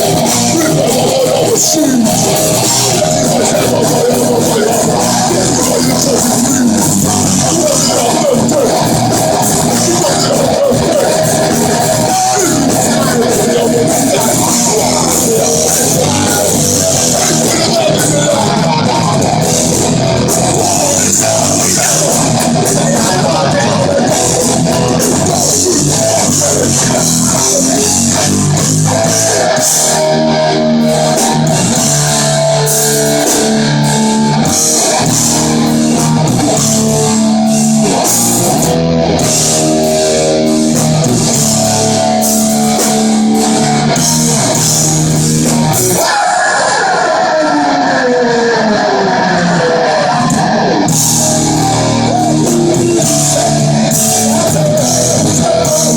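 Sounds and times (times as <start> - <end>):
drum kit: 0.0 - 48.0, 48.8 - 55.9
bass guitar: 0.0 - 55.9
distorted electric guitars: 0.0 - 55.9.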